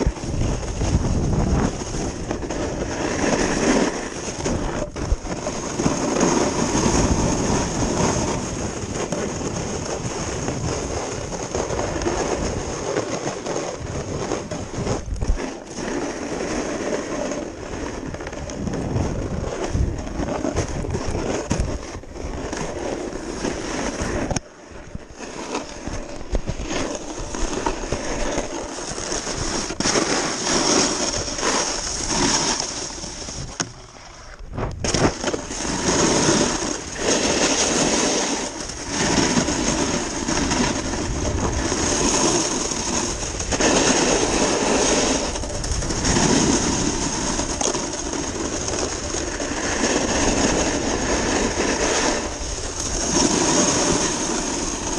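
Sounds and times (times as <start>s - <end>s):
wind buffeting microphone: 0.0s - 15.7s, 17.5s - 25.2s, 25.8s - 54.9s
snowboard scraping over snow: 0.0s - 54.9s.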